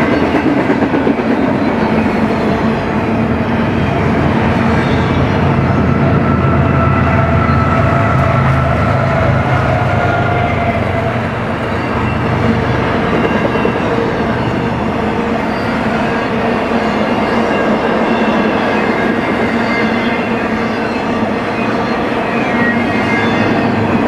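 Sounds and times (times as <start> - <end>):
diesel locomotives passing: 0.0 - 24.0
train wheels rolling on rails: 0.0 - 24.0.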